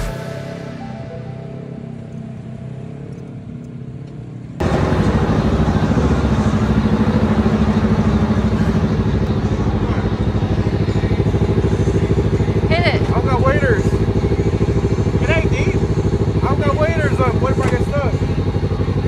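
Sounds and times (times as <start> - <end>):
vehicle engine running loud: 0.0 - 19.0.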